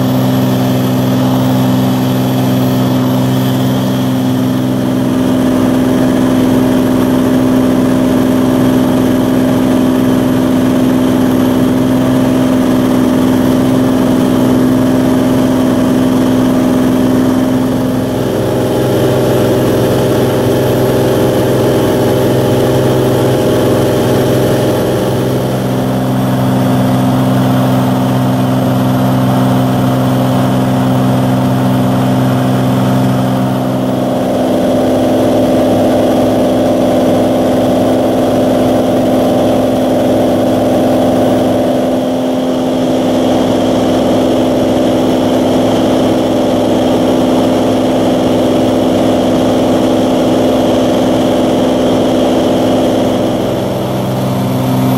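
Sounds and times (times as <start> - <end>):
aircraft engine and propeller drone: 0.0 - 54.9.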